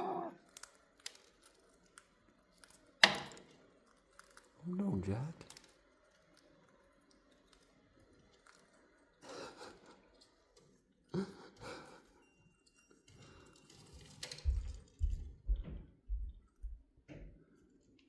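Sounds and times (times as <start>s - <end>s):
parrot chewing and crunching: 0.0s - 15.4s.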